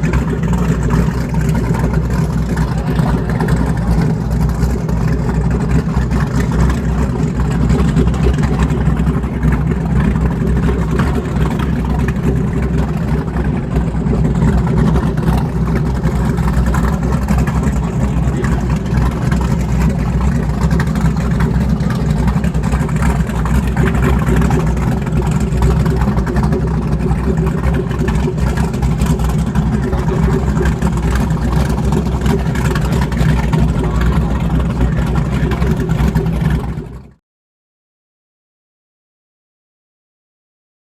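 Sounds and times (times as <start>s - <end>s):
boat engines droning: 0.0s - 37.1s.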